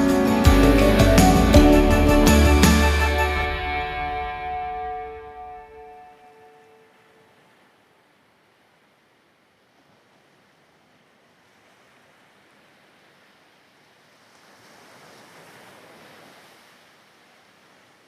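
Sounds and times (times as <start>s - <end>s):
ocean surf washing: 0.0s - 18.0s.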